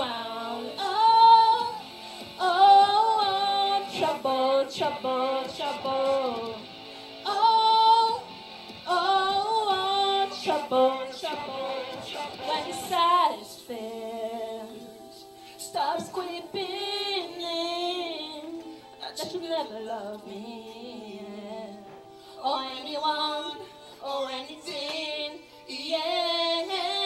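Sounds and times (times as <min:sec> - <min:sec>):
woman singing with vibrato: 0:00.0 - 0:27.0.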